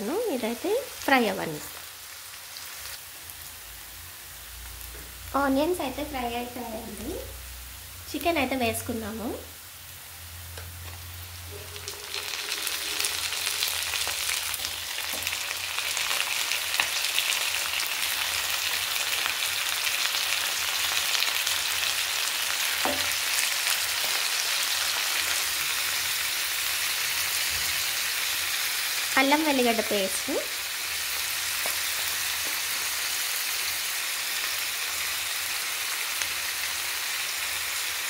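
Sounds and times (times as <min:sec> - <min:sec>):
chicken sizzling in hot oil: 0:00.0 - 0:38.0.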